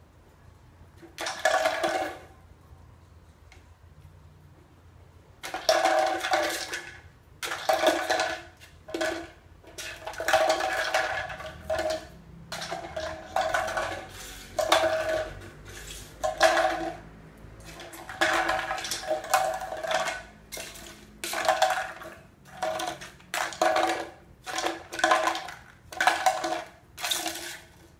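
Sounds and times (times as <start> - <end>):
kibble rattling in plastic bottle: 1.0 - 2.3, 5.4 - 27.9.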